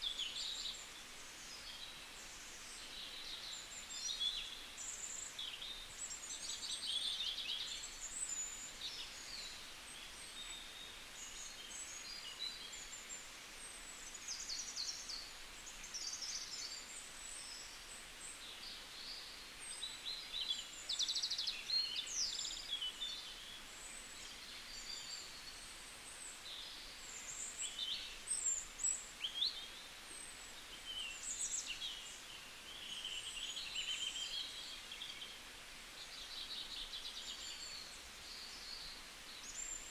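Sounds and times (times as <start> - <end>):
faint steady hiss: 0.0 - 39.9
small birds chirping: 0.0 - 39.9.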